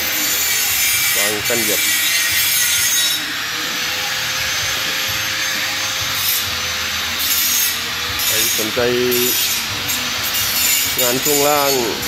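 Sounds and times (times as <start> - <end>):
grinder cutting steel hiss: 0.0 - 12.0.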